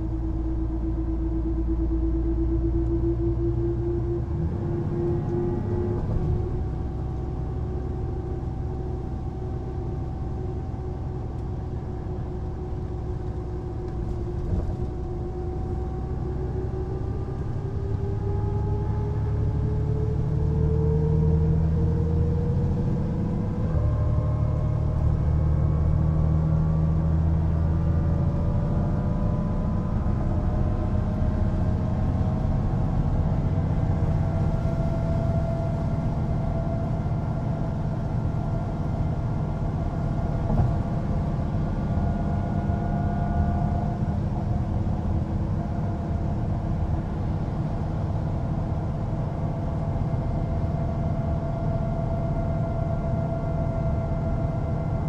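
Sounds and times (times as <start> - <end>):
bus diesel engine rumble: 0.0 - 55.0
engine whine rising in pitch: 0.0 - 55.0.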